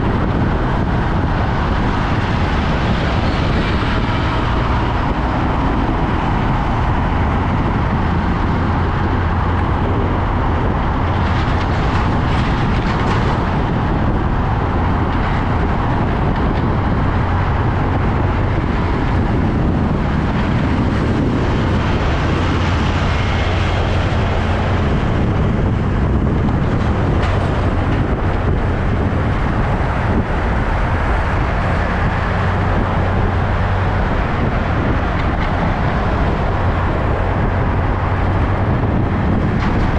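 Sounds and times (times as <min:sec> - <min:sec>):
heavy truck engine rumbling: 0:00.0 - 0:39.9
road noise: 0:00.0 - 0:39.9.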